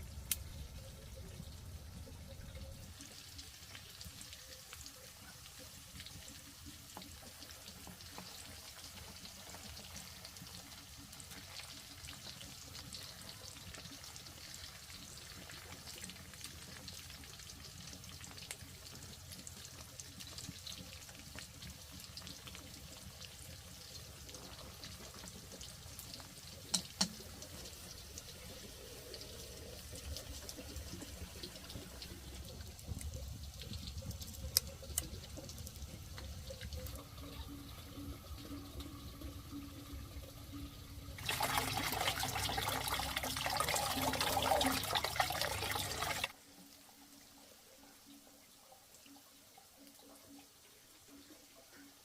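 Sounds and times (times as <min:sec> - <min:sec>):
water running and trickling: 0:00.0 - 0:52.0.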